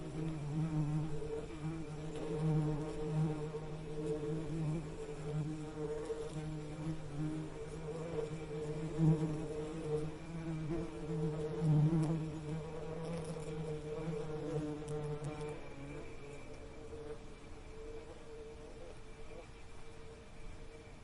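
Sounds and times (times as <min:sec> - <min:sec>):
bees buzzing: 0:00.0 - 0:19.7.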